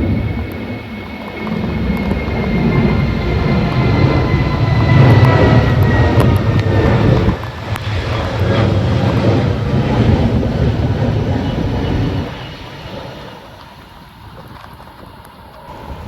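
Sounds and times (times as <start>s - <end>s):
jet engines passing: 0.0s - 16.0s.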